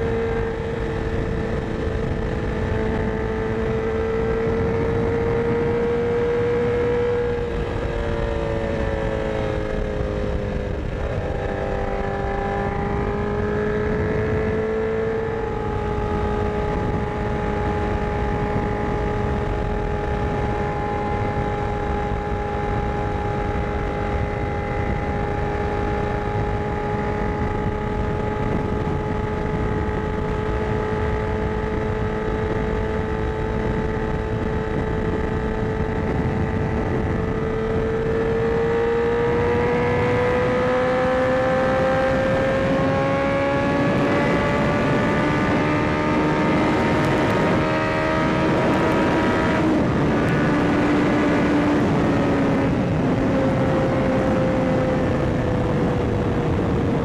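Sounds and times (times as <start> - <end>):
motorcycle engine cruising: 0.0 - 57.0
wind rushing: 0.0 - 57.0.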